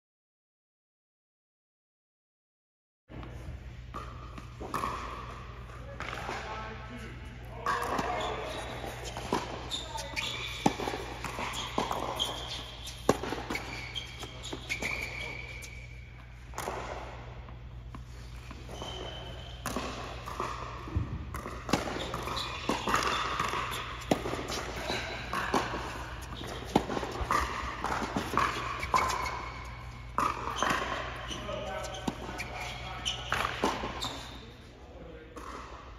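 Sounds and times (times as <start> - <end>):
tennis ball bouncing on hard court: 3.9 - 6.5, 7.6 - 34.4, 35.4 - 35.9.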